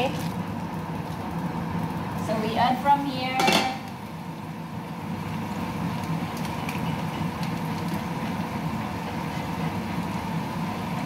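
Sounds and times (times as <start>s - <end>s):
low rumbling from stovetop: 0.0s - 11.0s.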